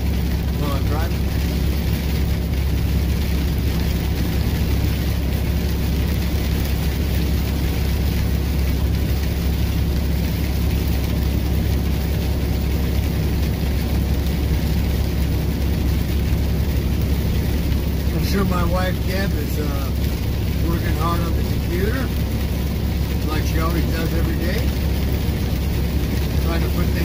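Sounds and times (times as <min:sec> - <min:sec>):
rain hissing on windshield: 0:00.0 - 0:27.0
truck engine and tyres droning: 0:00.0 - 0:27.0.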